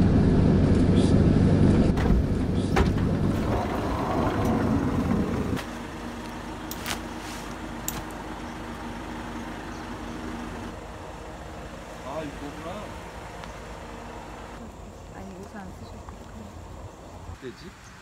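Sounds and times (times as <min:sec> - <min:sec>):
vehicle engine low rumble: 0:00.0 - 0:17.4.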